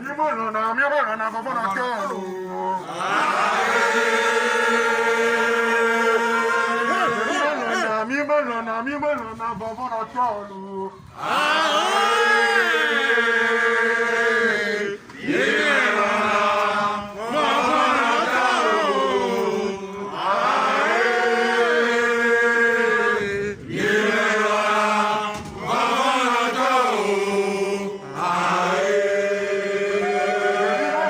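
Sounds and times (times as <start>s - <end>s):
voices chanting: 2.0s - 8.2s, 11.1s - 31.0s.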